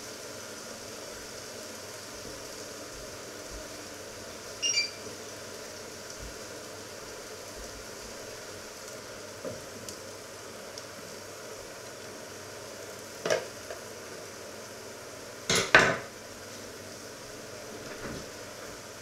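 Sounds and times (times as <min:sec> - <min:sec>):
food sizzling in pan: 0:00.0 - 0:19.0.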